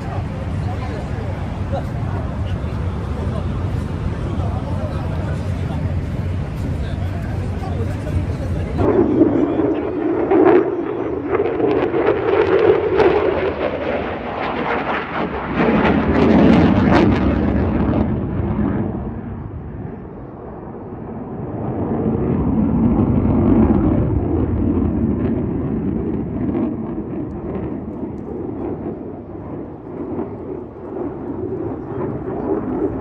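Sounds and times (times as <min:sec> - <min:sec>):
fighter jet engine roar: 0:00.0 - 0:33.0.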